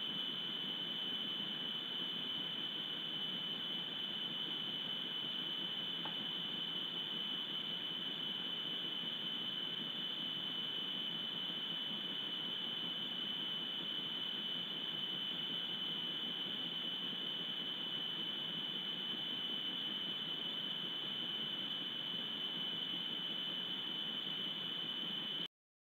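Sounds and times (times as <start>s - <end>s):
high-pitched electronic whine: 0.0s - 25.5s.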